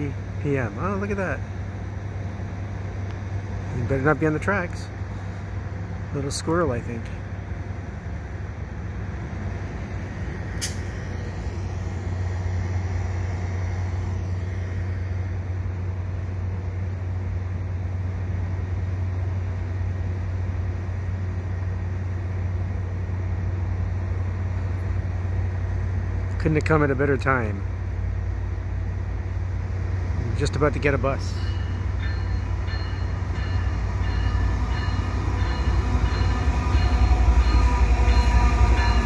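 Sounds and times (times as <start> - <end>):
diesel locomotive rumble: 0.0 - 39.0.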